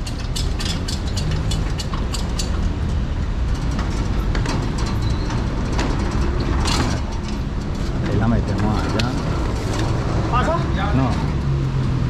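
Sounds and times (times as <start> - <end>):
clacks and rattles: 0.0 - 12.0
pallet jack wheels rumbling: 0.0 - 12.0.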